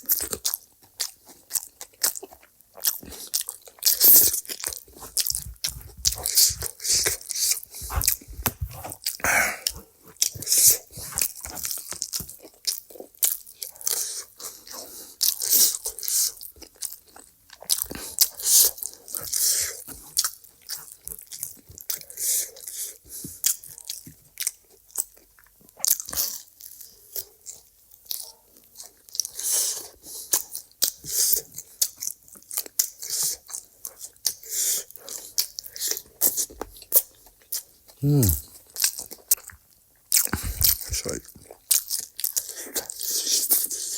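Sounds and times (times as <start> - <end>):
person chewing and crunching food: 0.0 - 43.9.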